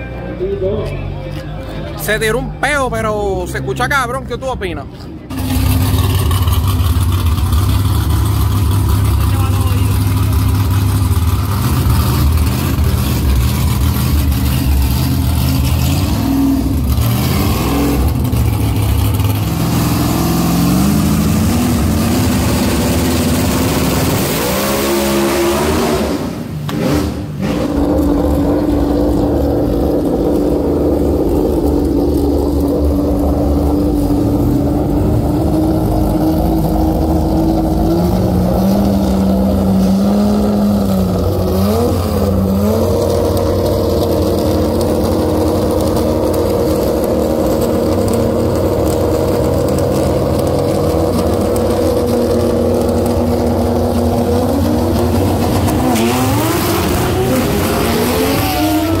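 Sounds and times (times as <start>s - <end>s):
race car engine revving: 1.7s - 59.0s.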